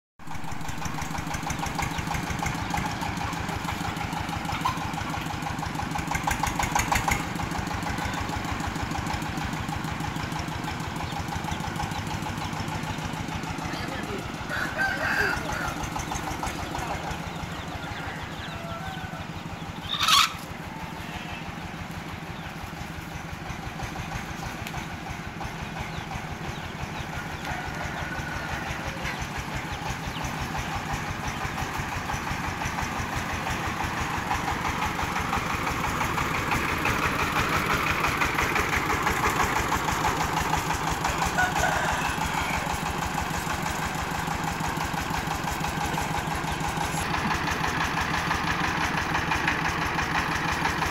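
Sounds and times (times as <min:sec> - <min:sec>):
diesel engine running: 0:00.2 - 0:50.9.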